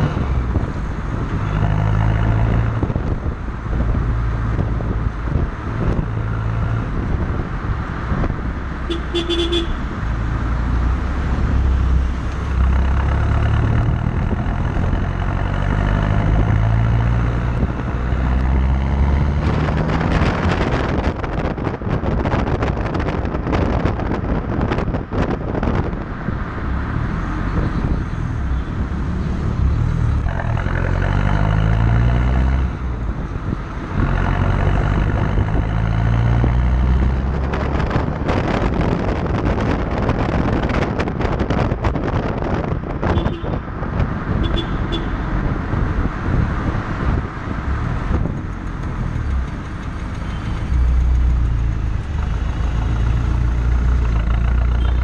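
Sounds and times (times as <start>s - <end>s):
diesel car engine accelerating: 0.0s - 44.4s, 45.2s - 55.0s
road noise: 0.0s - 55.0s
wind noise on microphone: 0.0s - 55.0s.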